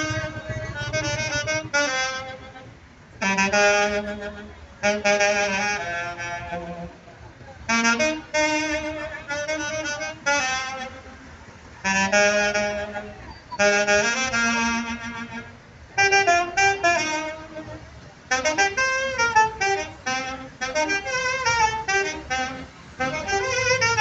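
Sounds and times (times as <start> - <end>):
saxophone melody: 0.0 - 24.0.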